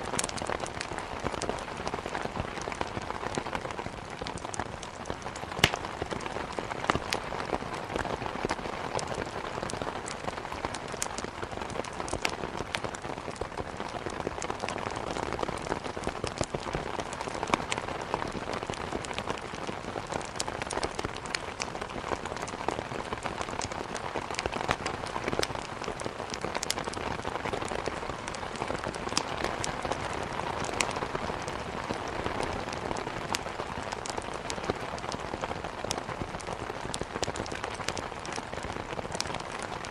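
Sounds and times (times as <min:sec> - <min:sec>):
heavy rain against a window: 0:00.0 - 0:39.9
wood fire crackling: 0:00.0 - 0:39.9.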